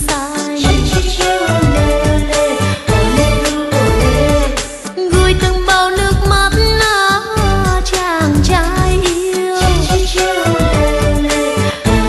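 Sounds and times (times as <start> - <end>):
dance music over loudspeakers: 0.0 - 12.0.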